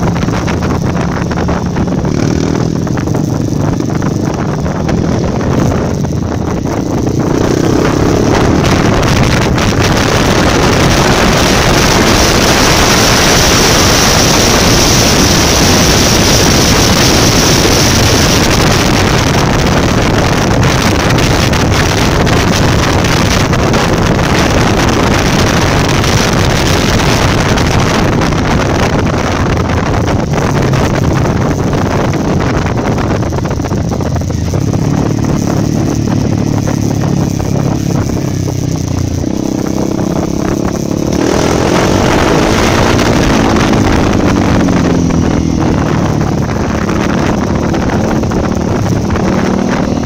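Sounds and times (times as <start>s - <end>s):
motorcycle engine running: 0.0s - 50.0s
wind noise on microphone: 0.0s - 50.0s.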